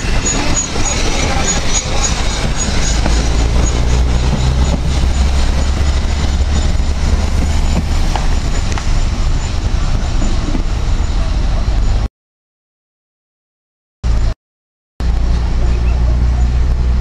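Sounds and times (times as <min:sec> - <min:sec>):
steam locomotive rumbling: 0:00.0 - 0:12.1, 0:15.0 - 0:17.0.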